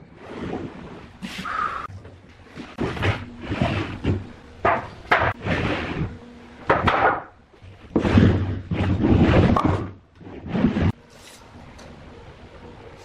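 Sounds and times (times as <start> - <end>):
wood scraping strokes: 0.2 - 6.8, 7.5 - 11.6.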